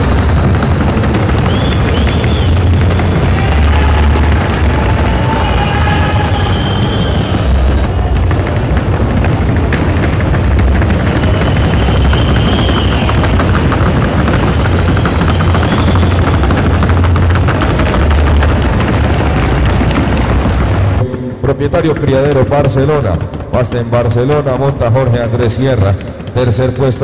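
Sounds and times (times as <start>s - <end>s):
heavy low boom: 0.0s - 24.8s
rapid hoofbeats: 0.0s - 27.0s.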